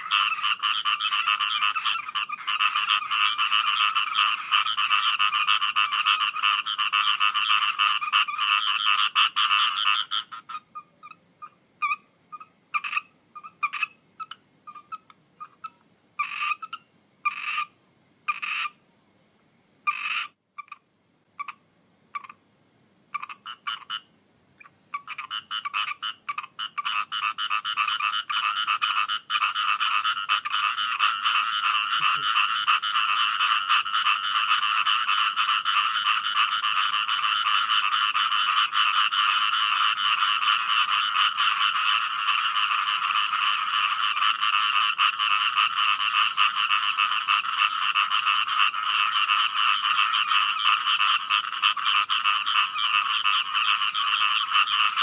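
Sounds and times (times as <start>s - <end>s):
frogs croaking in chorus: 0.0s - 55.0s.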